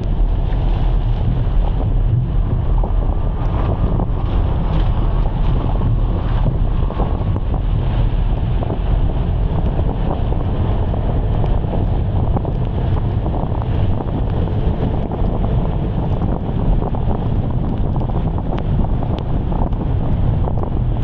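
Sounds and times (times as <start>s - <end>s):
heavy rain: 0.0s - 21.0s
wind buffeting microphone: 0.0s - 21.0s.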